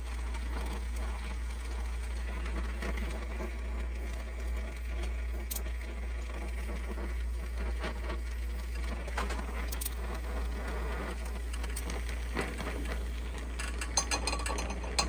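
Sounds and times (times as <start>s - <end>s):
gas torch flame hissing: 1.4s - 14.0s.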